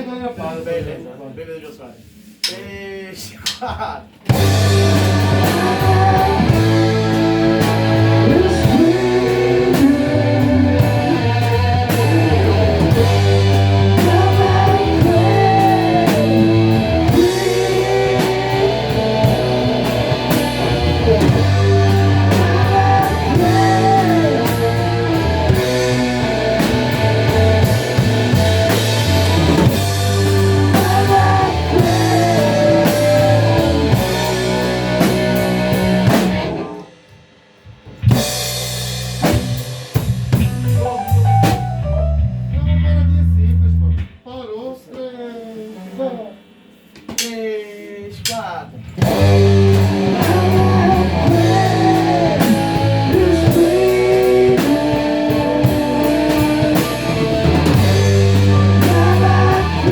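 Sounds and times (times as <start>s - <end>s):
rock band playing: 4.1s - 44.4s, 48.2s - 59.9s.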